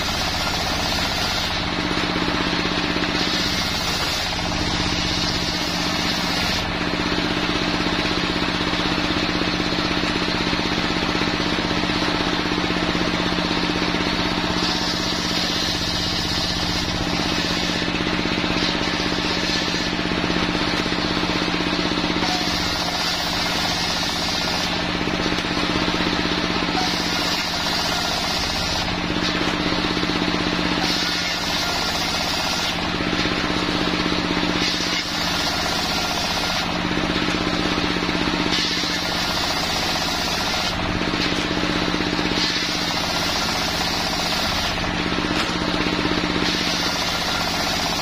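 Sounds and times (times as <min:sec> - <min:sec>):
saw blade cutting wood: 0:00.0 - 0:07.0, 0:13.6 - 0:48.0
engine running steadily: 0:00.0 - 0:48.0.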